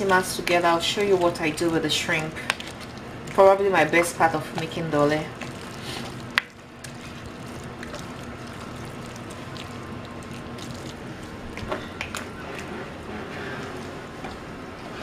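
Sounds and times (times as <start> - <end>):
spoon stirring wet food: 0.0 - 15.0.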